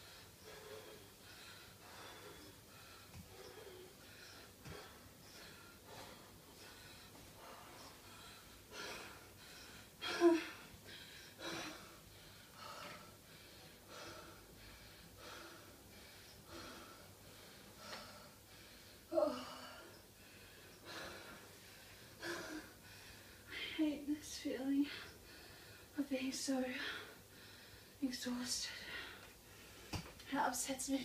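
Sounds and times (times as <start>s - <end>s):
woman breathing heavily: 0.0s - 30.8s.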